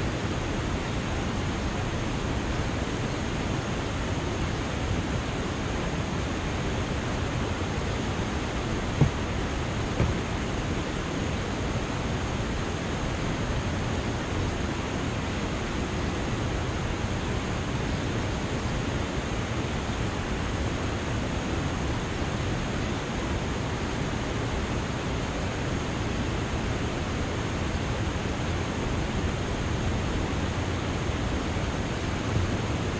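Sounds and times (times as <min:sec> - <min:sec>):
river water rushing over dam: 0:00.0 - 0:32.9.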